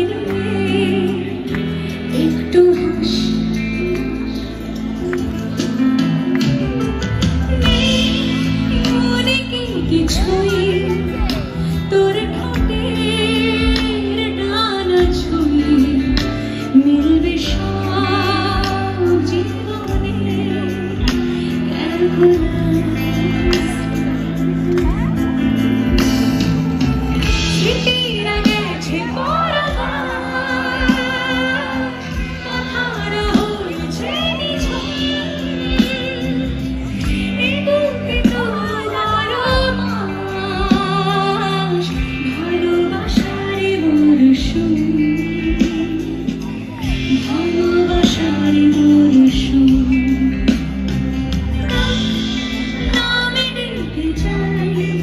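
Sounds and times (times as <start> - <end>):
woman singing with vibrato: 0.0 - 6.4, 7.4 - 26.0, 27.2 - 55.0
live band playing: 0.0 - 55.0.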